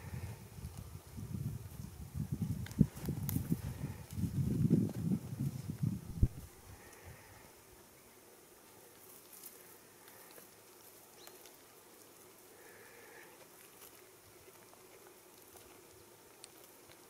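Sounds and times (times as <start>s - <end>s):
goats chewing twigs: 0.5s - 7.1s, 8.6s - 17.0s.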